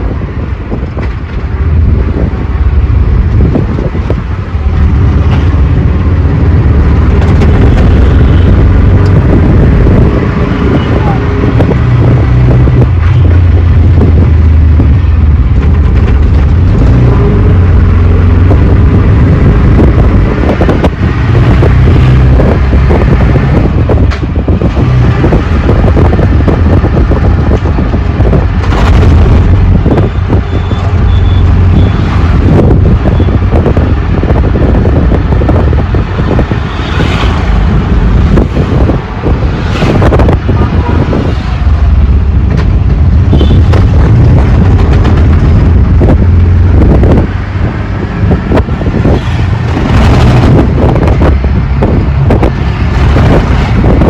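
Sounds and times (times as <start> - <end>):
engine low rumble: 0.0 - 54.0
thumps and jolts from road: 0.0 - 54.0
wind buffeting microphone: 0.0 - 54.0.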